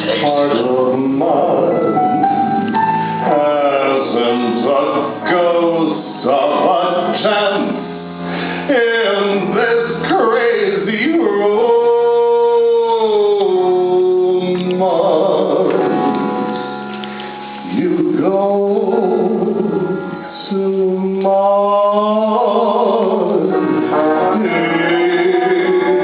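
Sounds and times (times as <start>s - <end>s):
slow ballad backing music: 0.0s - 26.0s.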